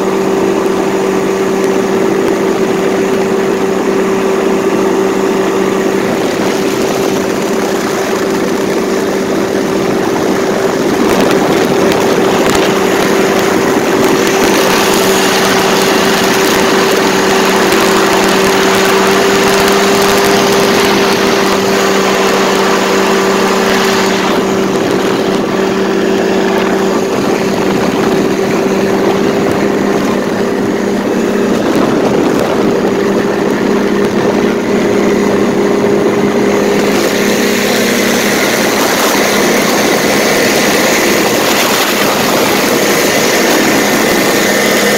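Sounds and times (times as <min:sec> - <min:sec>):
paramotor engine drone: 0:00.0 - 0:44.9
rushing wind hiss: 0:00.0 - 0:44.9.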